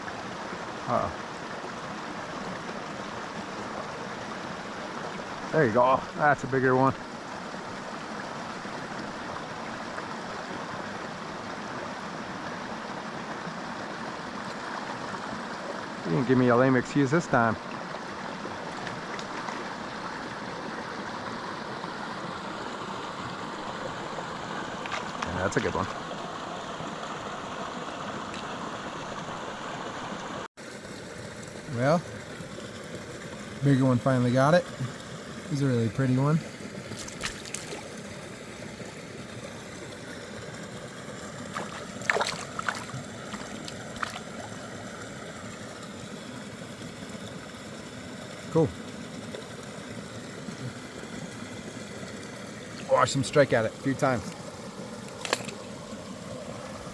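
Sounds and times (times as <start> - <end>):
creek flowing: 0.0 - 56.9.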